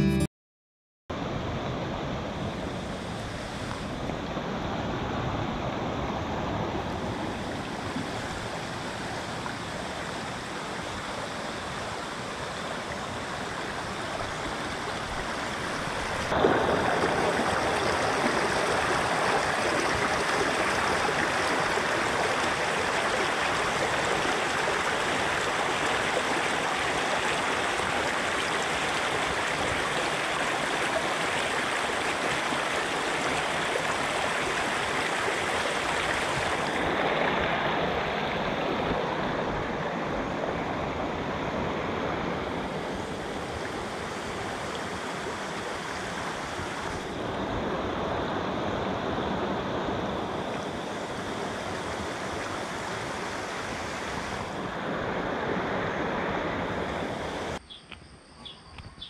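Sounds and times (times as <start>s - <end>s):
water rushing over stones: 6.4s - 48.7s, 49.6s - 57.6s.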